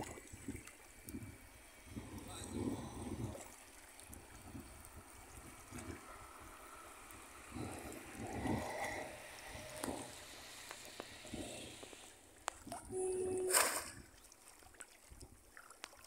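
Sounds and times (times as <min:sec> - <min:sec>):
water sloshing around wading legs: 0:00.0 - 0:16.0.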